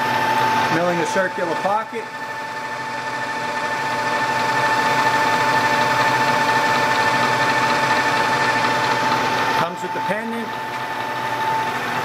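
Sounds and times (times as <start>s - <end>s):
milling machine whining: 0.0s - 12.0s.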